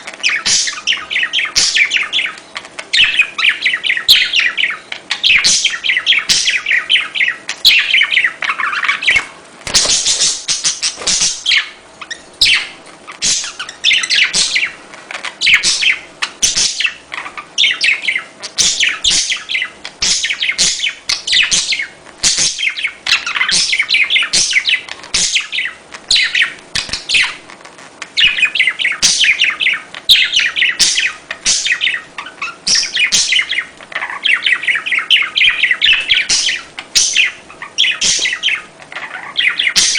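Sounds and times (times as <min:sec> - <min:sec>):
budgerigars chattering: 0:00.0 - 0:27.4, 0:28.1 - 0:39.9.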